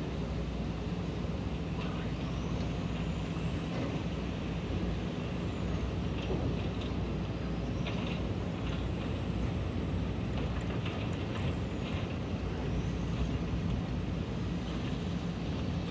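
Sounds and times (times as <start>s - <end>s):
distant excavator diesel engine: 0.0s - 15.9s.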